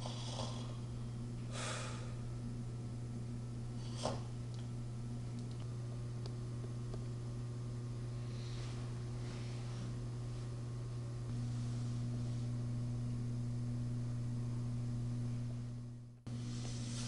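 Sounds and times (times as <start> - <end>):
electrical hum with hiss: 0.0 - 17.0.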